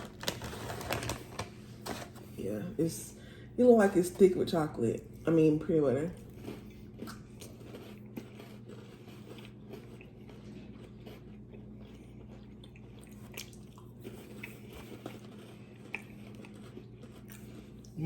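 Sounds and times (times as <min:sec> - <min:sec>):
crackers crunching: 0:00.0 - 0:02.4, 0:05.0 - 0:18.0
low electrical hum: 0:00.0 - 0:18.0.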